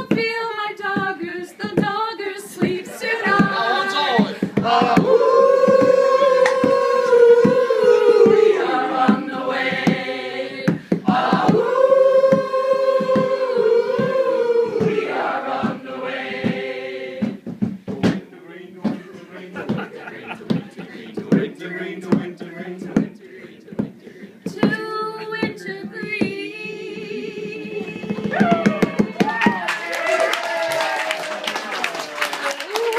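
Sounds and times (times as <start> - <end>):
chorus of voices singing: 0.8 - 17.5, 18.9 - 29.6.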